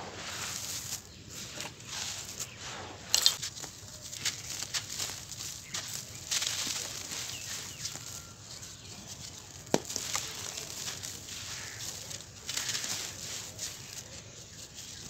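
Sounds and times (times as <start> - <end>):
hands crumbling dry cement: 0.0 - 15.0
crumbs pouring onto a pile: 0.1 - 2.5, 3.1 - 14.1.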